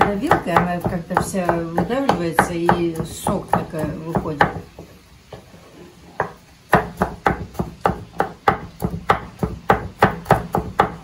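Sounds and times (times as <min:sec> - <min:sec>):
knife chopping on cutting board: 0:00.0 - 0:04.9, 0:06.1 - 0:11.0.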